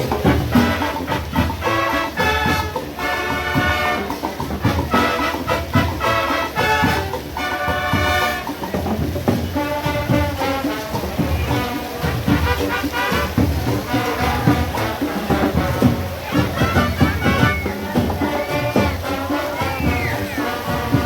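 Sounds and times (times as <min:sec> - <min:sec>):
parade band with brass and drums: 0:00.0 - 0:21.0.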